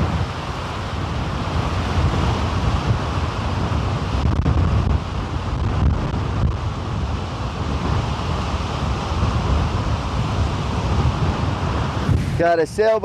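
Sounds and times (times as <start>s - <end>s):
waves washing in: 0.0s - 13.0s
wind buffeting microphone: 0.0s - 13.0s.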